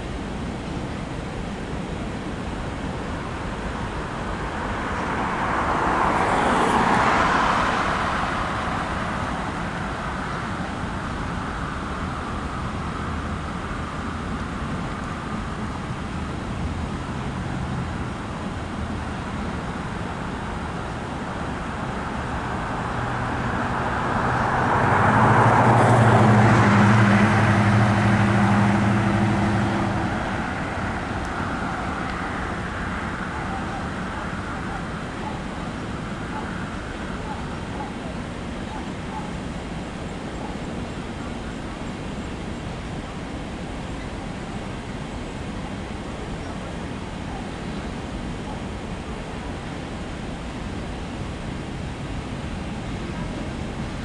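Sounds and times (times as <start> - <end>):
road vehicles passing: 0.0 - 54.0.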